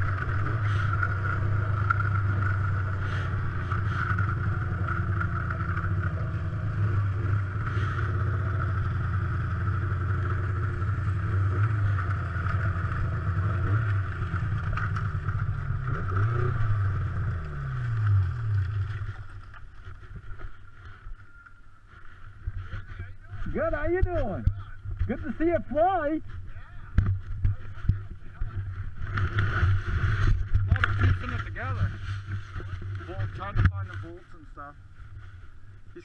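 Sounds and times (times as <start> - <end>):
snowmobile engine droning: 0.0 - 36.0.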